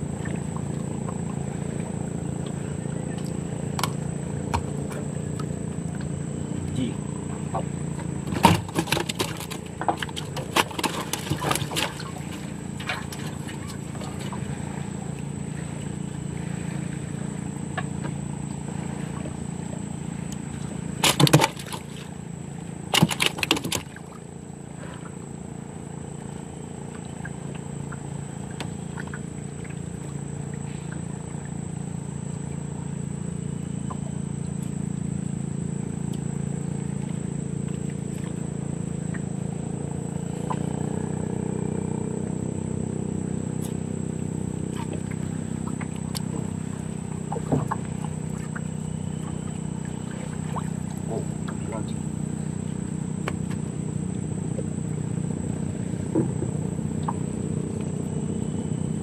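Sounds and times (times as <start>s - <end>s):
insect drone: 0.0s - 59.0s
low even hum: 0.0s - 59.0s.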